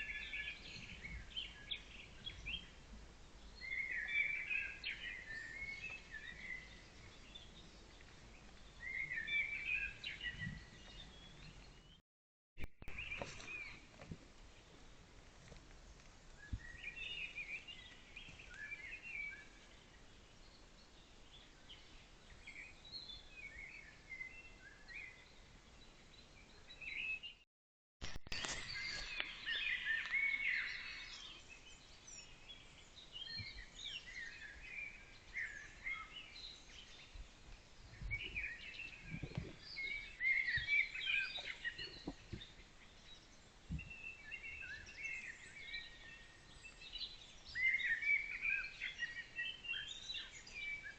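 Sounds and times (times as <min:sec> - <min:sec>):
wild birds singing: 0:00.0 - 0:12.0, 0:12.8 - 0:27.4, 0:28.2 - 0:50.9.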